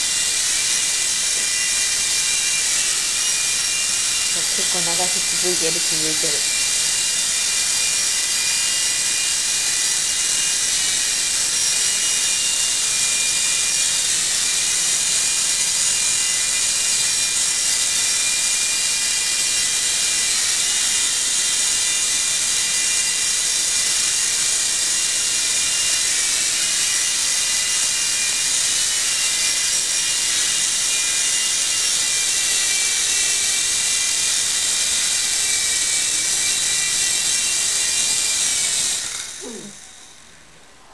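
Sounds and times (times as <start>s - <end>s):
toy helicopter whirring: 0.0s - 40.5s.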